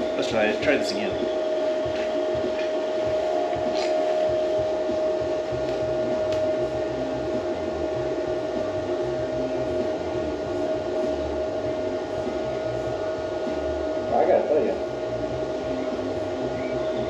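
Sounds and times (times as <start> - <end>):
welder cooling fan whirring: 0.0 - 17.0.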